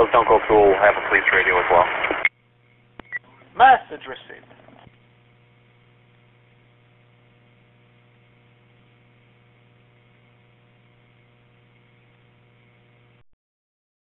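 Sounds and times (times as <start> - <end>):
faint electrical hum: 0.0 - 13.2
light radio hiss: 0.0 - 13.2
thin steady radio tones: 0.0 - 13.2.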